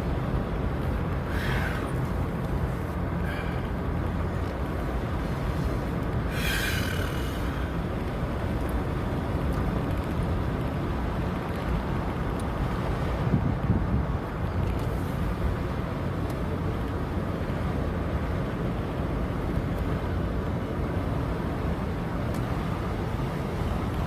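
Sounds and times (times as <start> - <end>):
road and wind noise in car: 0.0 - 24.0.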